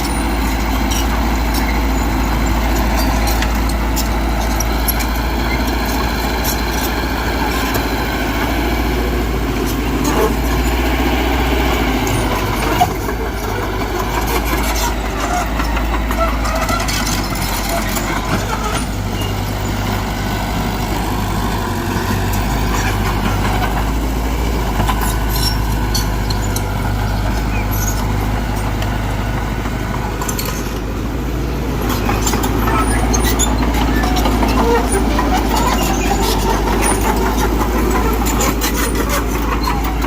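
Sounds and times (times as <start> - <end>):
heavy machine engine under load: 0.0 - 40.0.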